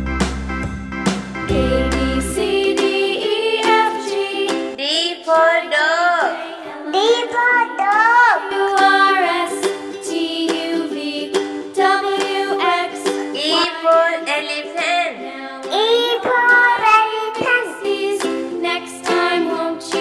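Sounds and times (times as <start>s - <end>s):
children's song with singing: 1.5s - 20.0s.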